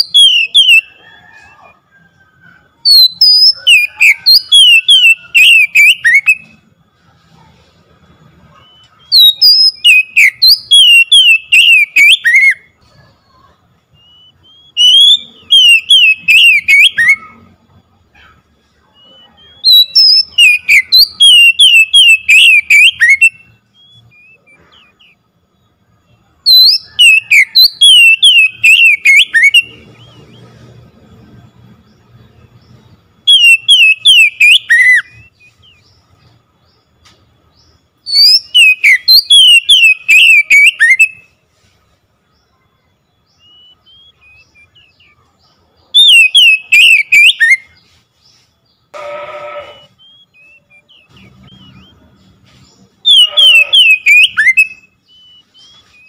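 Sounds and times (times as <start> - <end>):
magpie-robin whistled song: 0.0 - 41.7, 42.3 - 56.0.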